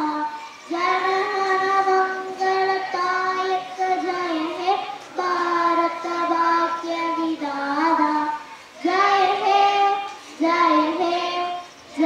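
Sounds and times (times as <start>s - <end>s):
girl singing unaccompanied: 0.0s - 12.0s.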